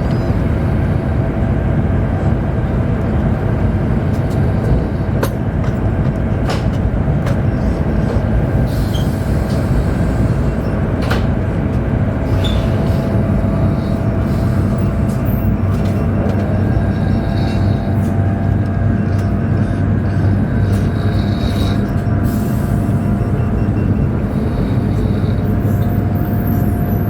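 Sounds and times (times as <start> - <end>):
train rumble and hum: 0.0 - 27.0.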